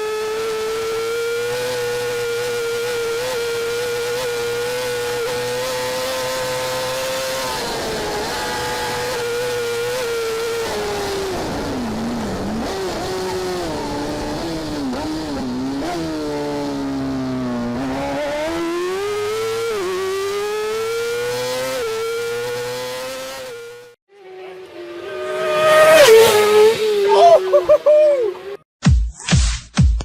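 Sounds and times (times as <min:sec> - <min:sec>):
motorcycle engine revving: 0:00.0 - 0:28.6.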